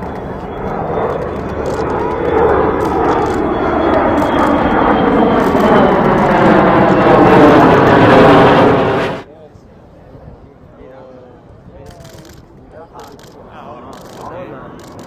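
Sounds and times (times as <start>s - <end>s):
airplane engine passing overhead: 0.0s - 10.0s, 12.0s - 15.0s.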